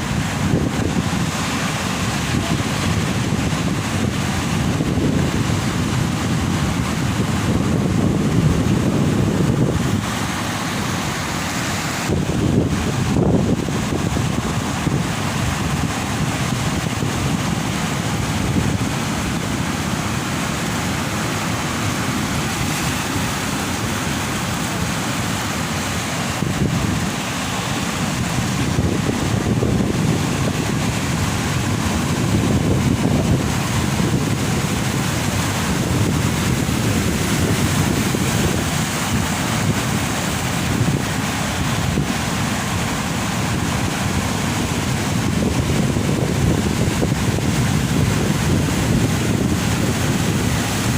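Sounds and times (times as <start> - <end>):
ocean waves breaking on beach: 0.0 - 50.9
wind buffeting microphone: 0.0 - 50.9.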